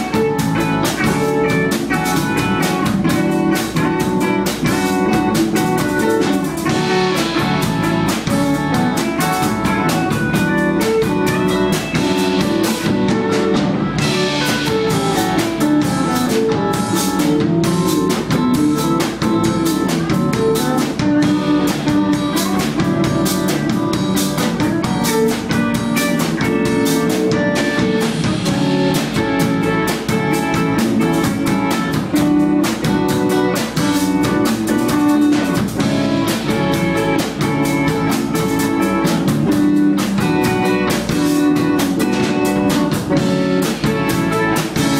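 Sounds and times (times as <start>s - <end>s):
drum kit beat: 0.0s - 44.9s
guitar playing: 0.0s - 44.9s.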